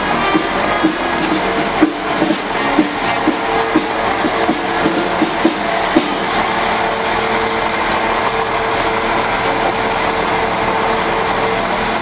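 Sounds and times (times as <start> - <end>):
diesel railbus engine running: 0.0 - 12.0
train rolling noise: 0.0 - 12.0.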